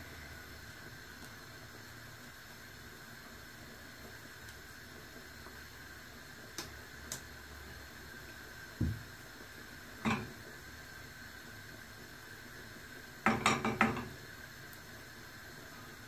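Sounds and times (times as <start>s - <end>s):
gas burner hissing: 0.0s - 16.0s.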